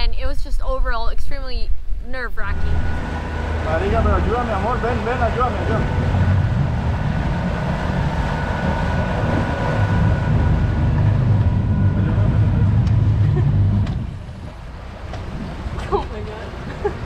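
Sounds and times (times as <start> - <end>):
faint steady whine: 0.0 - 17.0
diesel engines low drone: 2.4 - 17.0.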